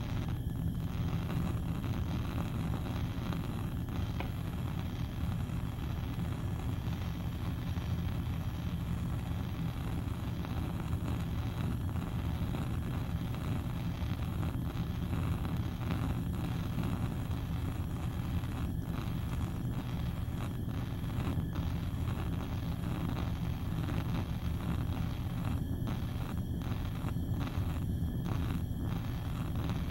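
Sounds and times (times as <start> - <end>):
bunsen burner flame rushing: 0.0 - 29.9.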